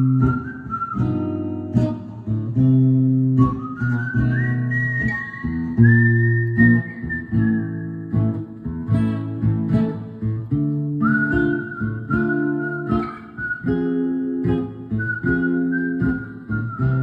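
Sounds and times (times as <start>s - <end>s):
acoustic guitar strumming: 0.0s - 17.0s
whistled melody: 0.0s - 17.0s.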